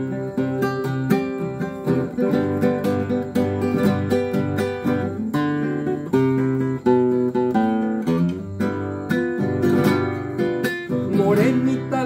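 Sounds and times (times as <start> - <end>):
classical guitar solo: 0.0 - 12.0.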